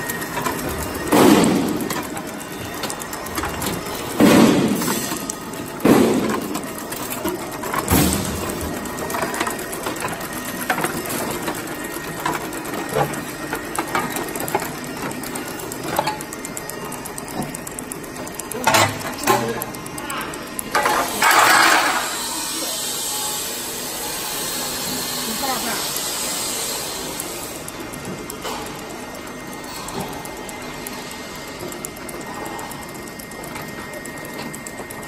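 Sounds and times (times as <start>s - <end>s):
roll forming machine running: 0.0s - 35.0s.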